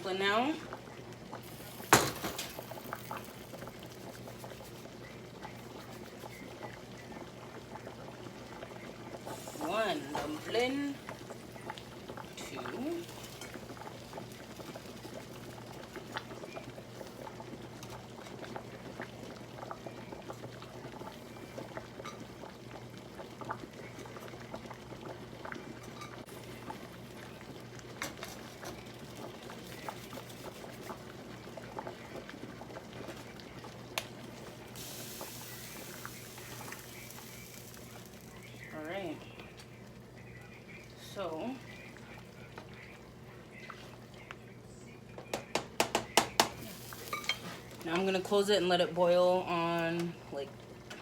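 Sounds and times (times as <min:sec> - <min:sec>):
soup boiling and bubbling: 0:00.0 - 0:51.0.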